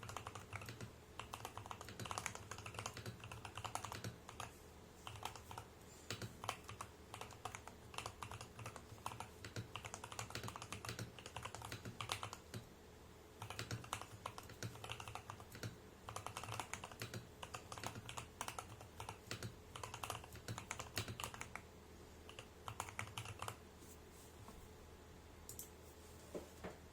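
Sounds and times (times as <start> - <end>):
fast typing on mechanical keyboard: 0.0 - 12.6, 13.4 - 21.6, 22.3 - 23.6.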